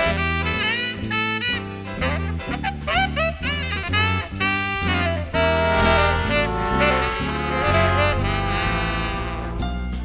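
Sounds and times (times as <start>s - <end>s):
jazz big band playing: 0.0s - 10.0s
saxophone solo: 0.0s - 10.0s.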